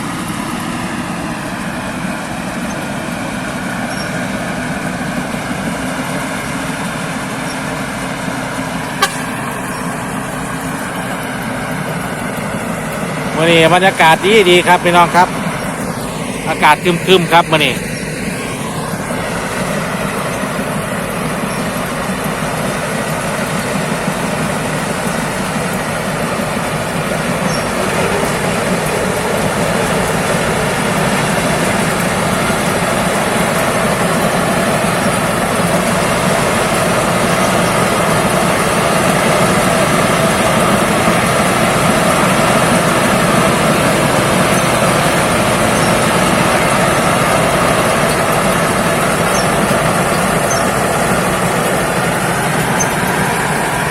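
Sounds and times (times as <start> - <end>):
combine harvester mechanical drone: 0.0 - 53.9.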